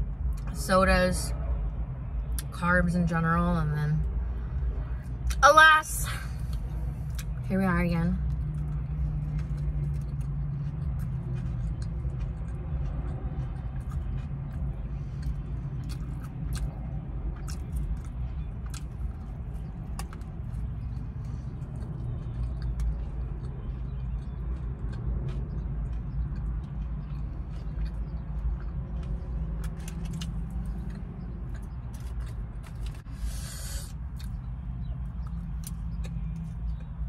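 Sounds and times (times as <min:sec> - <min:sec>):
low car hum: 0:00.0 - 0:37.0
chewing and mouth smacking: 0:06.4 - 0:07.5, 0:08.2 - 0:37.0.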